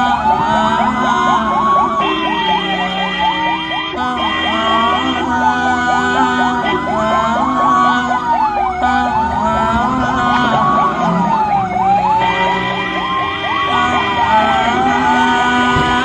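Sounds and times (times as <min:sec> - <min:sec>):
siren yelping sweeps: 0:00.0 - 0:15.9
ambulance siren wailing: 0:00.0 - 0:16.0
steady siren tone: 0:00.0 - 0:16.0.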